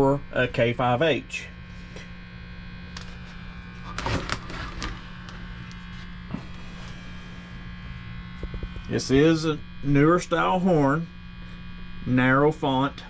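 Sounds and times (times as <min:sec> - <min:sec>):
electrical buzz and hum: 0:00.0 - 0:13.0.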